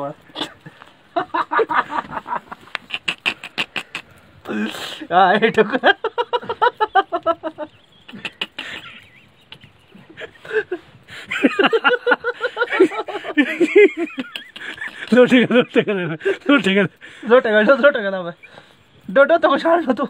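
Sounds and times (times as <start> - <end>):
people laughing: 0.4 - 17.8.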